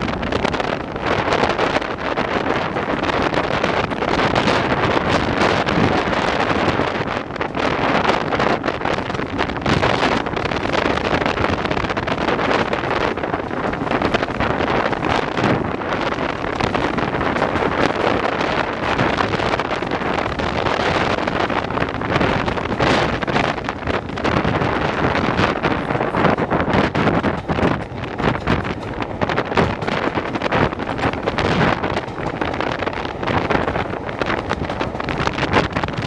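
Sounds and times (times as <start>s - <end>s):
train running on track: 0.0s - 36.0s
wind buffeting microphone: 0.0s - 36.0s.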